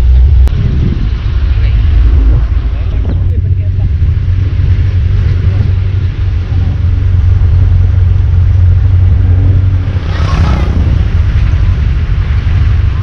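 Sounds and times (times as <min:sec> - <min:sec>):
car engine rumbling: 0:00.0 - 0:13.0
road noise: 0:00.0 - 0:13.0
wind noise: 0:00.0 - 0:13.0.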